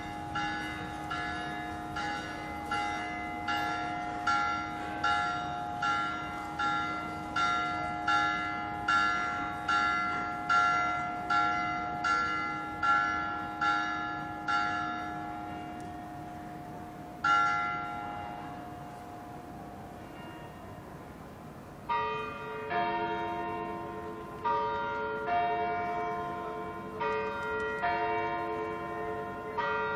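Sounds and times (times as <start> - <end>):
church bell ringing: 0.0 - 21.0, 21.9 - 29.9.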